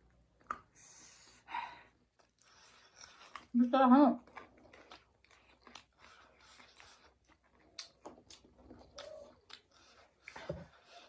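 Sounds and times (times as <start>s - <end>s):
soft chewing of noodles: 0.0s - 11.0s.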